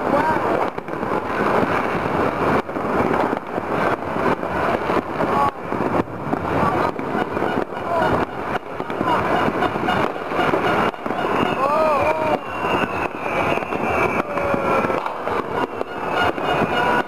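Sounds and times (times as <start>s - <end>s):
distant fireworks crackling: 0.0s - 17.0s
firework whistles: 0.0s - 17.0s.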